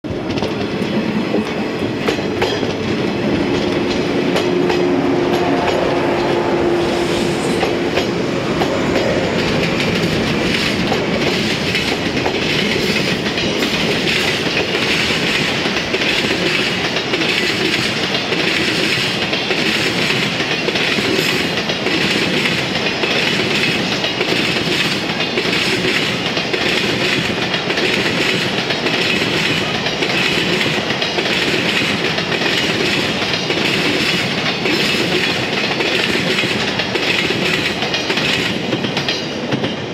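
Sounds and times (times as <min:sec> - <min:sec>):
freight train rumbling: 0:00.0 - 0:39.9
wheels clacking over rail joints: 0:00.1 - 0:06.5, 0:07.6 - 0:39.9.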